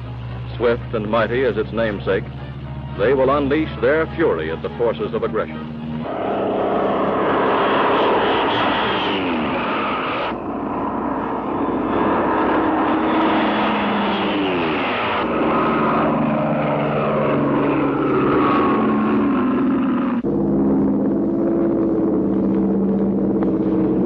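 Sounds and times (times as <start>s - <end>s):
propeller aircraft engine at full power: 0.0s - 24.0s.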